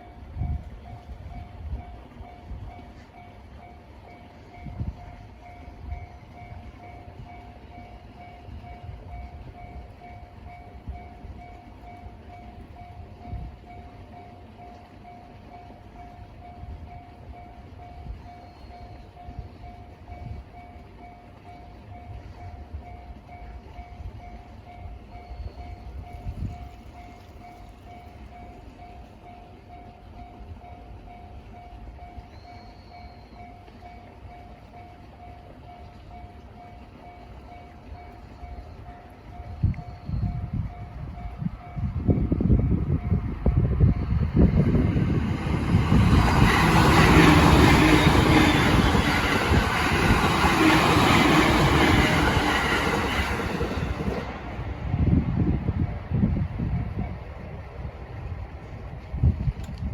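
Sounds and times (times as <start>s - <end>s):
level crossing warning bell: 0.0s - 54.9s.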